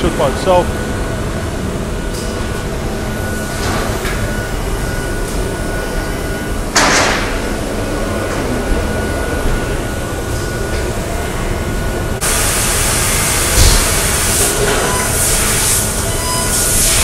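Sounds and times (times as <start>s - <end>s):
workshop machinery hum: 0.0s - 17.0s.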